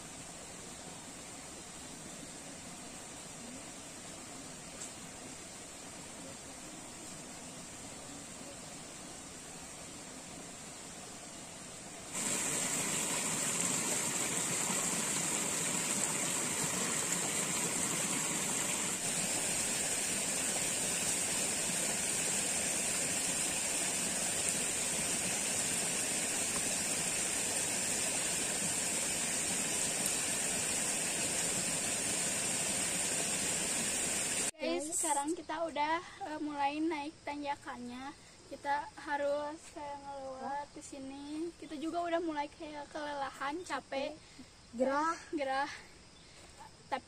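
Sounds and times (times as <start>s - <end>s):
high-pitched hiss: 0.0s - 47.0s.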